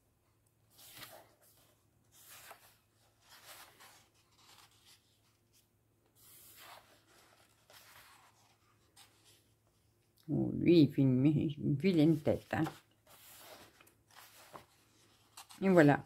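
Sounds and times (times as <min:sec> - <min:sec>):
paper pages rustling: 0:00.7 - 0:09.9, 0:12.0 - 0:16.0.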